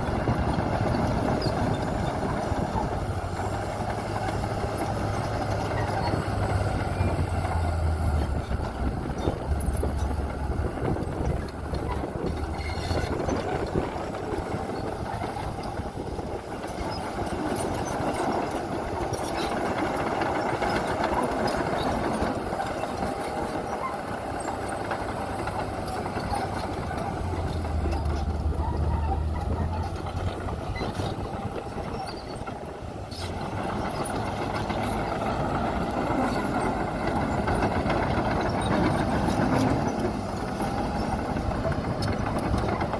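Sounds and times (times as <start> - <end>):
heavy machinery engine rumble: 0.0 - 42.9.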